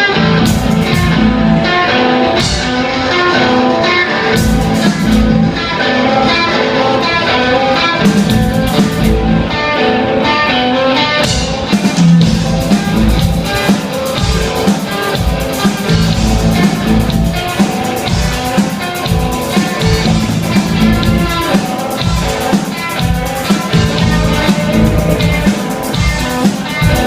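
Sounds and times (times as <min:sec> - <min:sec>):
drum kit with heavy kick: 0:00.0 - 0:03.3, 0:04.2 - 0:05.6, 0:08.0 - 0:09.5, 0:11.2 - 0:27.0
electric guitar: 0:00.0 - 0:27.0.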